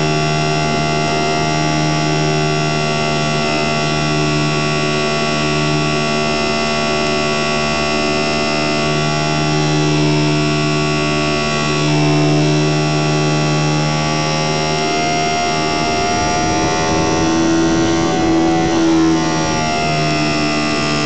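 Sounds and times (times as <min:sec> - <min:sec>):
model plane motor whining: 0:00.0 - 0:21.0.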